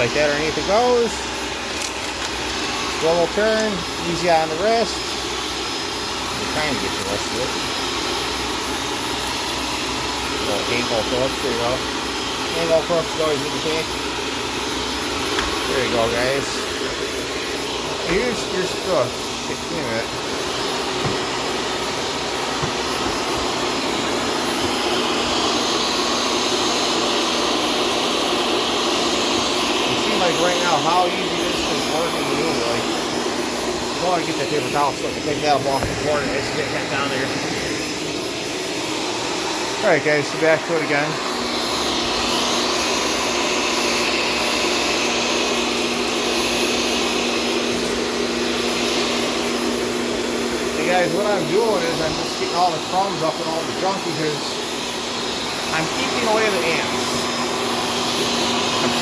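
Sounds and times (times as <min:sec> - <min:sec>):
vacuum cleaner whirring: 0:00.0 - 0:59.0.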